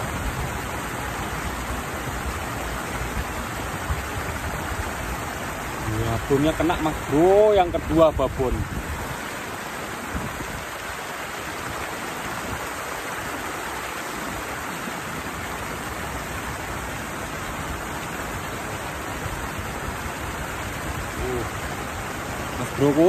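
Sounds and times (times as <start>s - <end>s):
water rushing over a weir: 0.0s - 23.0s.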